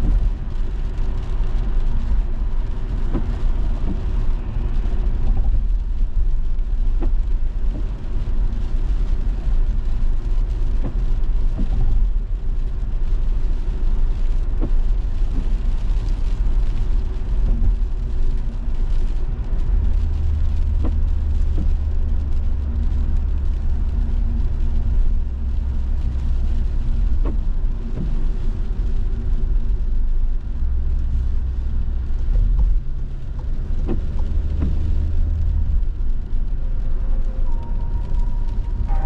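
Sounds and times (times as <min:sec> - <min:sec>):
road noise inside car: 0:00.0 - 0:39.0
tyres on wet road: 0:00.0 - 0:39.0.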